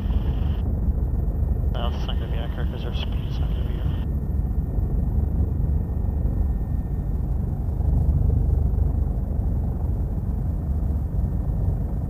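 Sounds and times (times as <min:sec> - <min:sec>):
helicopter rotor and engine drone: 0:00.0 - 0:12.0.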